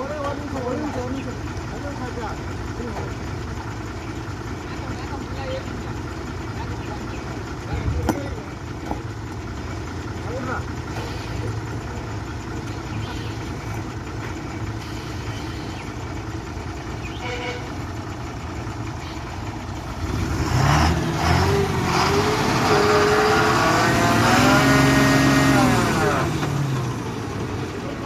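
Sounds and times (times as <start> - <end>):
diesel lorry engine revving: 0.0 - 28.0.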